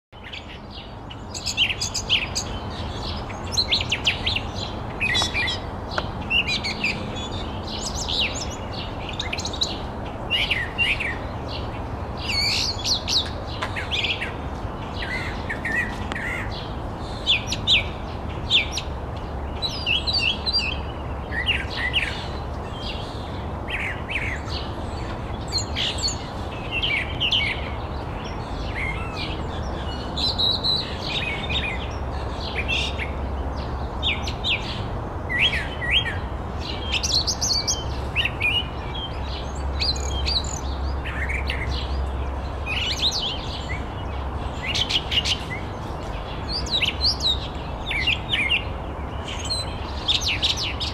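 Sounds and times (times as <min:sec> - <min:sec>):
bird singing varied phrases: 0:00.2 - 0:50.9.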